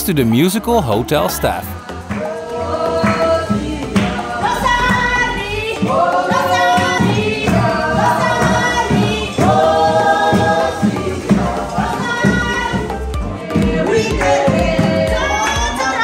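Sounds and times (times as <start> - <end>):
group singing in harmony: 1.7 - 16.0.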